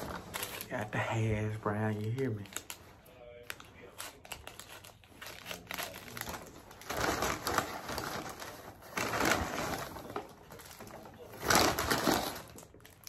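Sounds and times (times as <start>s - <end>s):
paper bag rustling: 0.0s - 13.0s.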